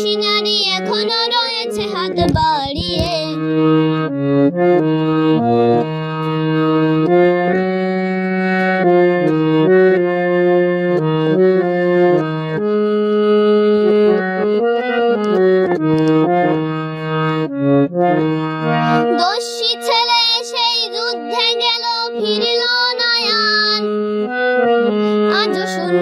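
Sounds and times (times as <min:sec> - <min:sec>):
harmonium melody over chords: 0:00.0 - 0:26.0.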